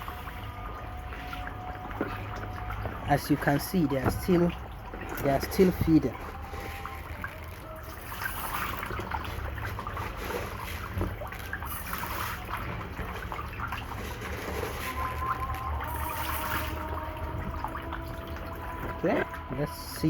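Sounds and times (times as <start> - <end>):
fish splashing at surface: 0.0 - 20.0
trickling water: 0.0 - 20.0.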